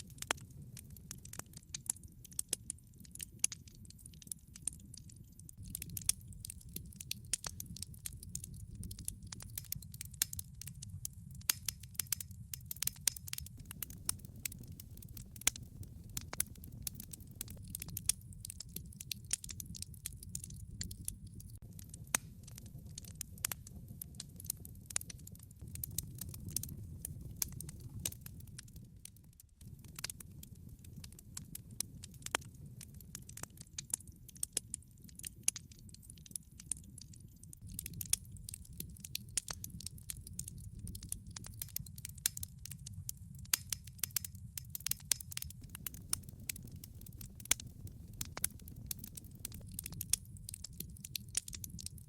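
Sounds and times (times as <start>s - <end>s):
log fire crackling: 0.0s - 52.0s
sharp pops and snaps of fire: 0.0s - 52.0s.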